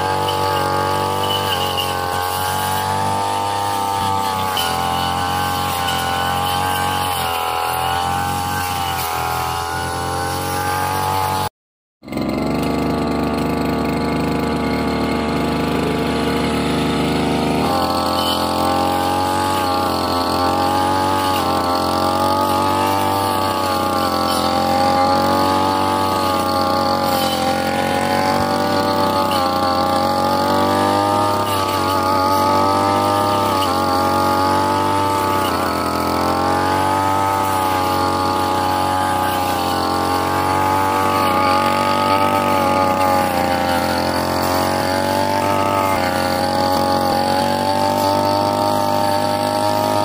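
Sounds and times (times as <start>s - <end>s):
brush cutter engine running: 0.0s - 50.0s.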